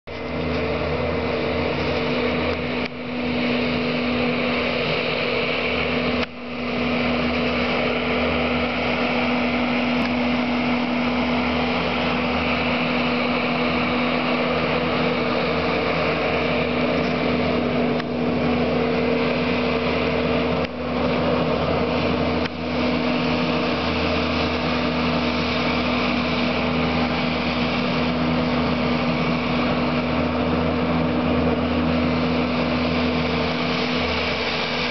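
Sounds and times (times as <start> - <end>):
diesel loader engine humming: 0.0 - 34.9.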